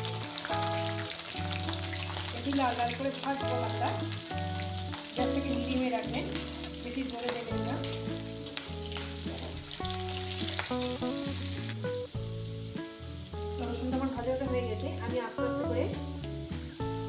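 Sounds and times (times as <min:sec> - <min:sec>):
background music: 0:00.0 - 0:17.0
garlic sizzling in hot oil: 0:00.0 - 0:17.0.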